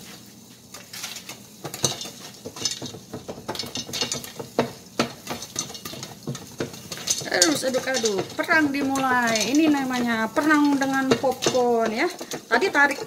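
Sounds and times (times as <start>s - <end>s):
popcorn popping in a pot: 0.6s - 13.0s
pot scraping on cooktop: 0.8s - 13.0s.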